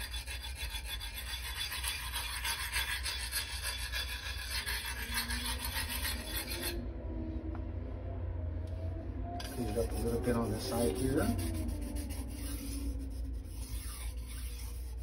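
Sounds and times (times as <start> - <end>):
metal file rasping on a knife: 0.0 - 6.8, 9.4 - 15.0.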